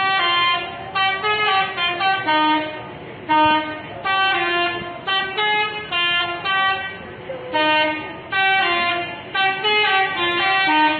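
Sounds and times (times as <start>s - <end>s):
bus multi-tone horn melody: 0.0s - 10.9s.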